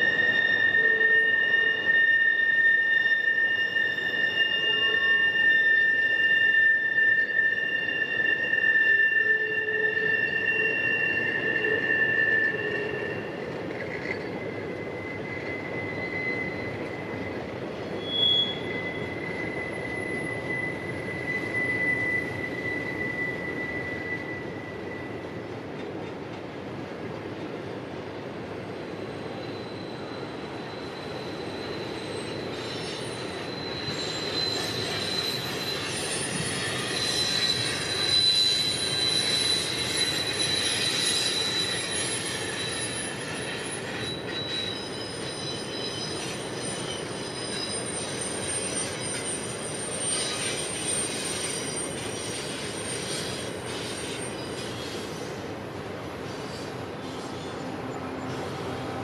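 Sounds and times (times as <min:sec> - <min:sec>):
freight train rolling by: 0:00.0 - 0:59.0
train wheels squealing on rails: 0:00.0 - 0:59.0.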